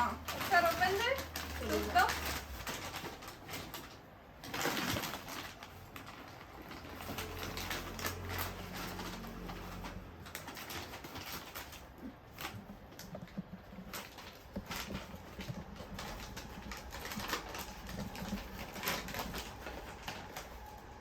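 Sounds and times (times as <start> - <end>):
plastic crinkling and rustling: 0.0 - 21.0
plastic packet tearing: 0.0 - 21.0.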